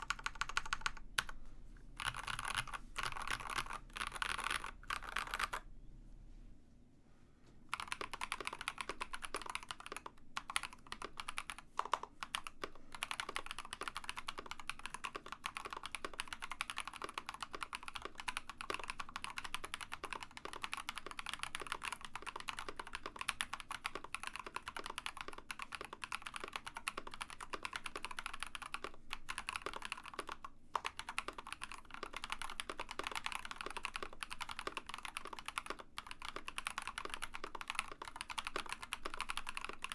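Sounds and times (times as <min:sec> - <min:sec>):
mechanical keyboard typing clacks: 0:00.0 - 0:01.4, 0:02.0 - 0:05.6, 0:07.7 - 0:39.9.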